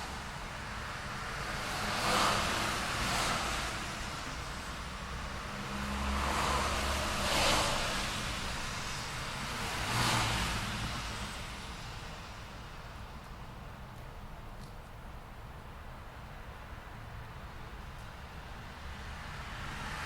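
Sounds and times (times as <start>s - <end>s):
cars passing: 0.0s - 14.4s, 15.8s - 20.0s.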